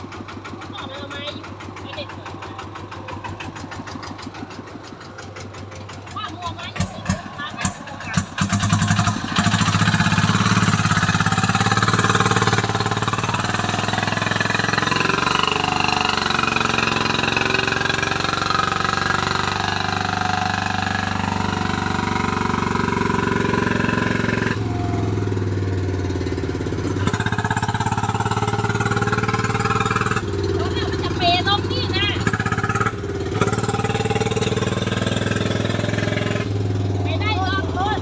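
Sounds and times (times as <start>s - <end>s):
vehicle engine droning under load: 0.0s - 38.0s.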